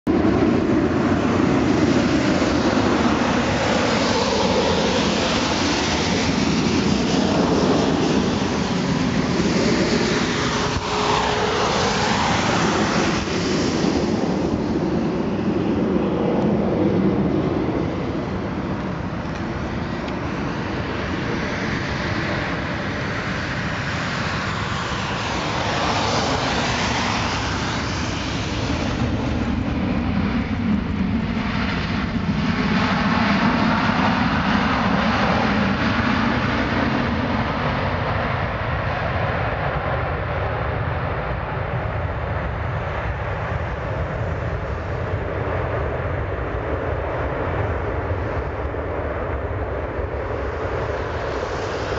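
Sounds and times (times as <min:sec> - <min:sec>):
jet engines roaring: 0:00.1 - 0:51.9.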